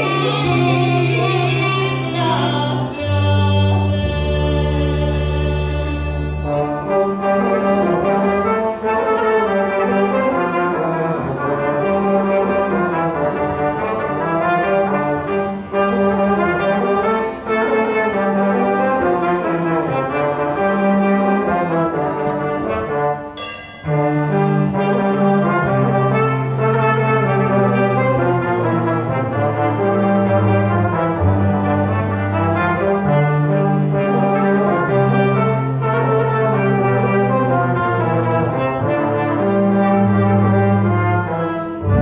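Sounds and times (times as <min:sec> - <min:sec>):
accordion: 0:00.0 - 0:42.0
brass band playing: 0:00.0 - 0:42.0
tuba bass line: 0:00.0 - 0:42.0.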